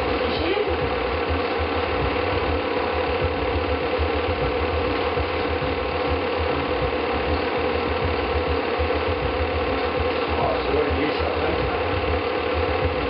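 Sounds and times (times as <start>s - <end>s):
film projector clattering: 0.0s - 13.0s.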